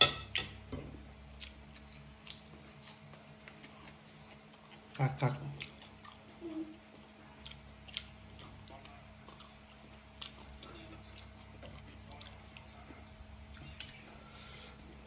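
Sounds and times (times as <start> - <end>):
person chewing: 0.4 - 15.0.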